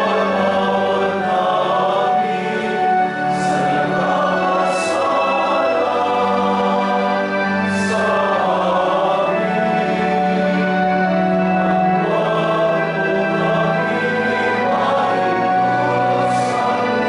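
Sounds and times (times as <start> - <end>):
choir chanting: 0.0 - 17.0.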